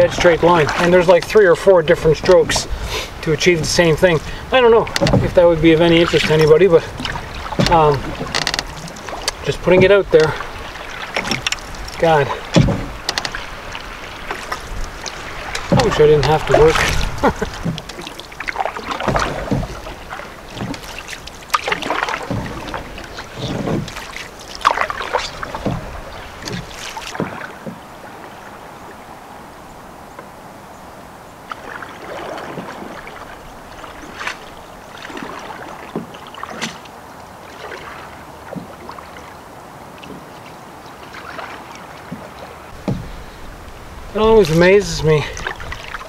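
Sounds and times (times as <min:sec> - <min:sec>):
canoe paddle splashing water: 0:00.0 - 0:46.0
faint water sounds: 0:00.0 - 0:46.0.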